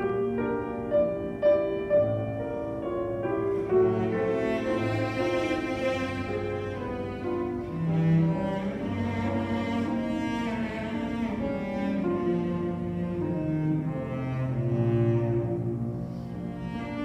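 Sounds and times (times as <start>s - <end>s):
cello bowing low notes: 0.0s - 17.0s
piano accompaniment: 0.0s - 17.0s.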